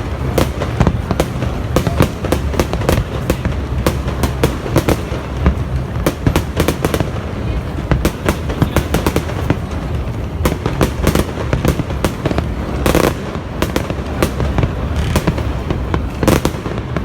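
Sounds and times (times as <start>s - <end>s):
fireworks cracks and bangs: 0.0s - 17.0s.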